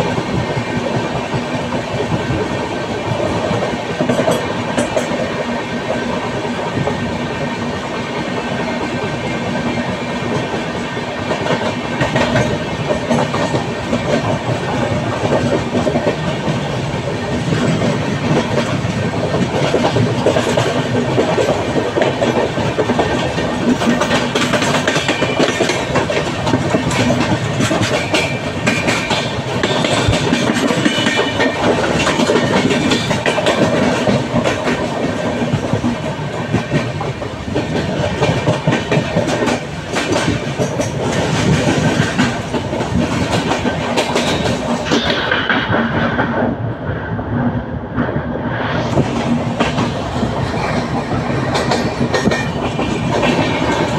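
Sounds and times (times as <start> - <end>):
train wheels clattering on rails: 0.0 - 53.9.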